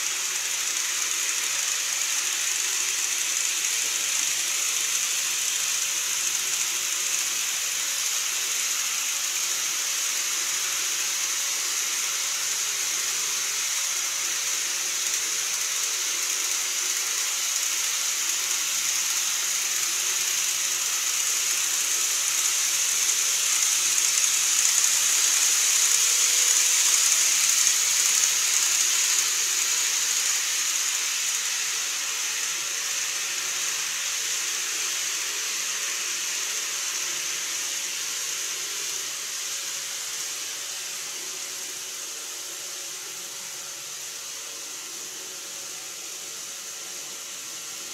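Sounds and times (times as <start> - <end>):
model trains whirring: 0.0 - 47.9.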